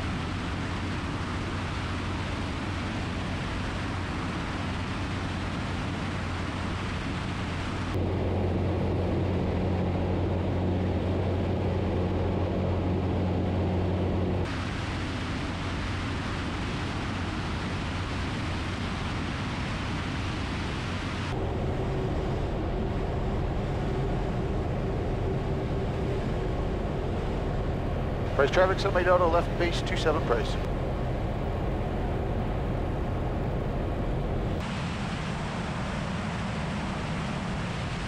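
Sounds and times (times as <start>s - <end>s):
light aircraft engine and propeller drone: 0.0s - 38.0s
wind rush: 0.0s - 38.0s.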